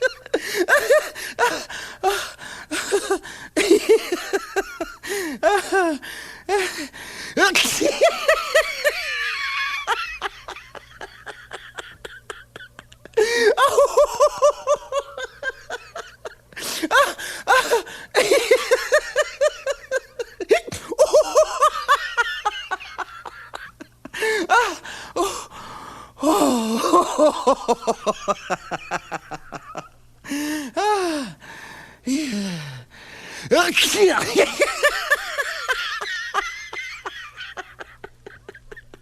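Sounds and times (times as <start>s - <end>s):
person laughing hard: 0.0s - 6.8s, 7.4s - 25.4s, 26.2s - 30.0s, 33.8s - 39.0s.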